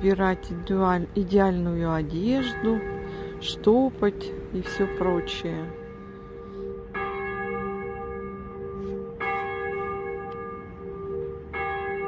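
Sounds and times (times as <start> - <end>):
church bell tolling: 0.0 - 12.0.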